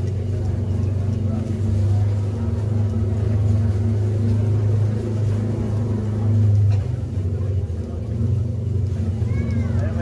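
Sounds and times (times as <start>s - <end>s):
low humming rumble: 0.0s - 10.0s.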